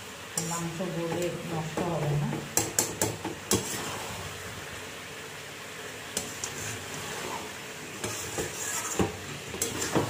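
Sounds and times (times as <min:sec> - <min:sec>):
curry sizzling in a metal pot: 0:00.0 - 0:10.0.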